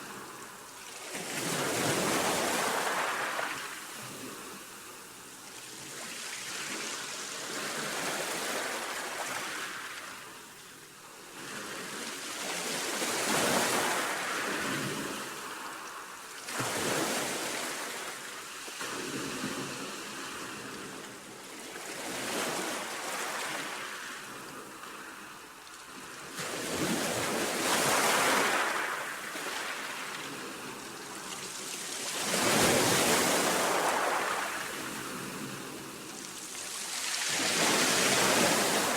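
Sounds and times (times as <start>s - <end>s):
waves breaking and washing in: 0.0s - 38.9s.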